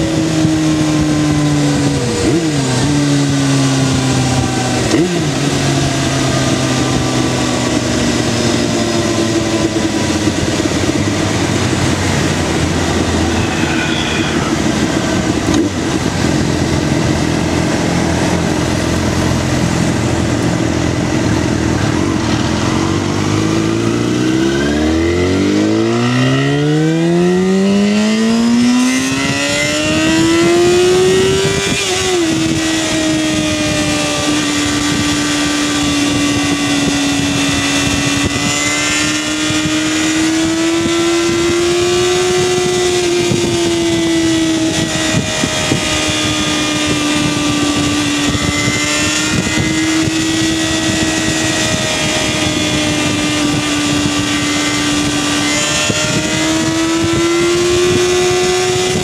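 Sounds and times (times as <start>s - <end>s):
motorcycle engine at high revs: 0.0s - 59.0s
wind rush: 0.0s - 59.0s.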